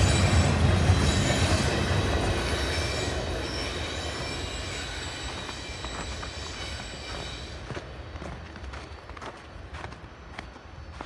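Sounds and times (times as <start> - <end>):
low train rumble: 0.0 - 11.0
train wheels squealing: 0.0 - 11.0.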